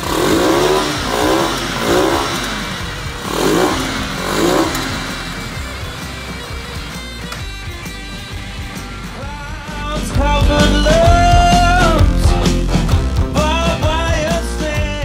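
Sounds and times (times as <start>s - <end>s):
motorcycle exhaust revving: 0.0s - 14.4s.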